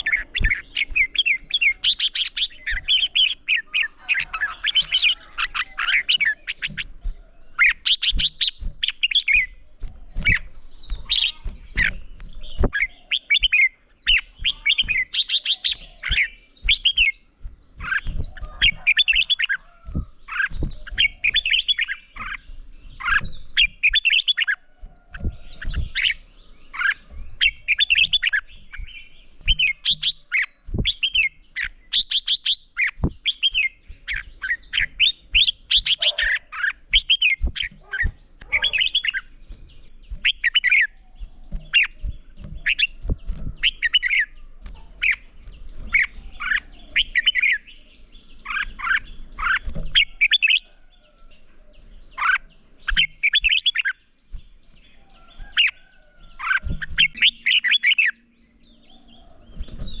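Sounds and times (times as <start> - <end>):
sharp bird clicks: 0.0 - 58.3
birds singing whistled phrases: 0.0 - 60.0.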